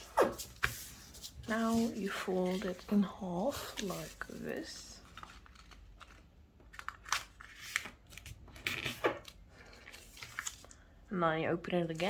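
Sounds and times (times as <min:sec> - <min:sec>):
paper being folded and creased: 0:00.0 - 0:10.8.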